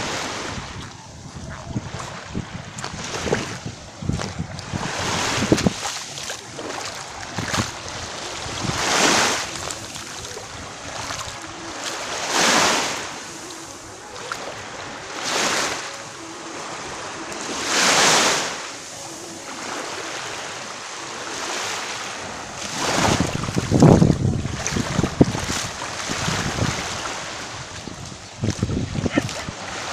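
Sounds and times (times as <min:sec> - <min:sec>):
wind rumbling on microphone: 0:00.0 - 0:20.0, 0:22.1 - 0:29.9
sea waves washing onto beach: 0:00.0 - 0:29.9.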